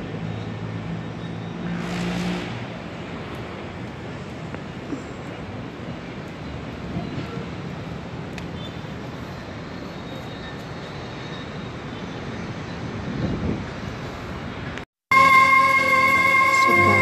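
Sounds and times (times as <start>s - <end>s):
city background rumble: 0.0s - 14.9s.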